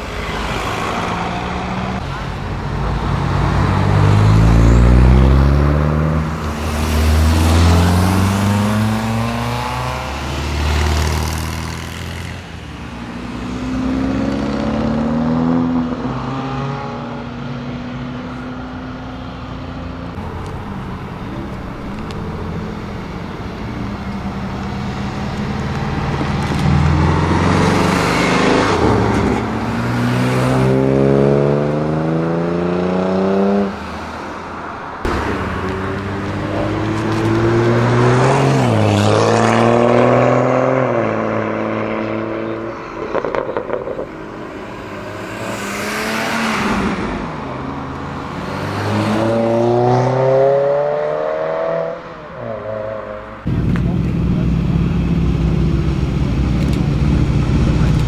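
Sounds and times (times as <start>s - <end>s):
cars accelerating away: 0.0s - 18.8s, 20.2s - 34.2s, 35.0s - 58.0s.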